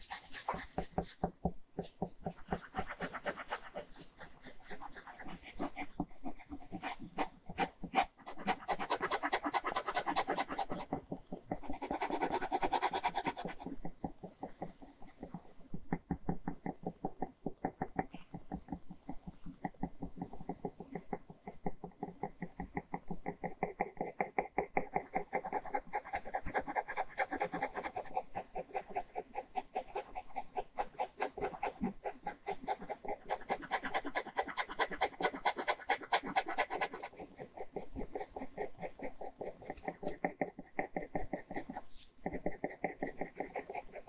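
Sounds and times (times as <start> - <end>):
pen scratching on paper: 0.0 - 44.0.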